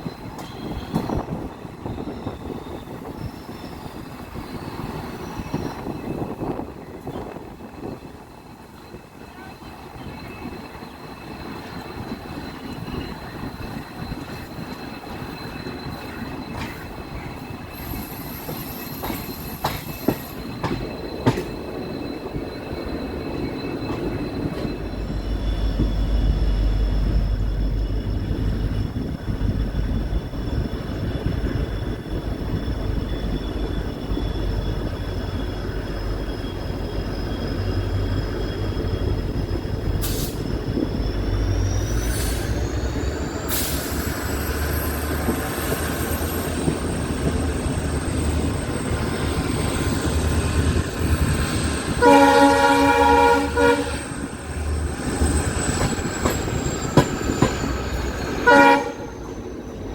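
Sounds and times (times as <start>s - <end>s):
train clicks on rails: 0.0s - 9.2s, 9.8s - 59.9s
heavy low train rumble: 0.0s - 59.9s
train wheel squeal: 0.0s - 59.9s.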